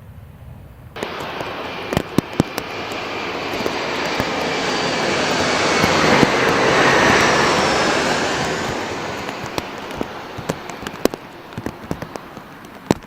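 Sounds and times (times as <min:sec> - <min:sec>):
jet airliner passing: 0:01.0 - 0:13.0.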